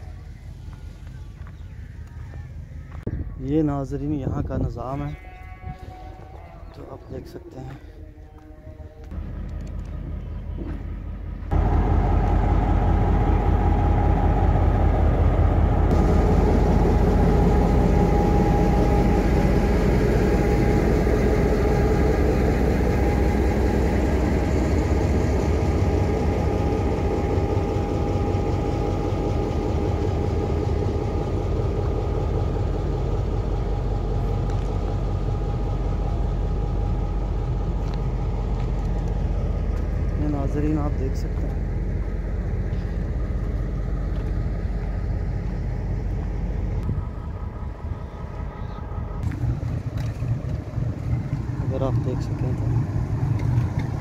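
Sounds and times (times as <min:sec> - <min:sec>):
large engine idling: 0:00.0 - 0:04.6, 0:05.9 - 0:54.0
steady tones: 0:09.1 - 0:54.0.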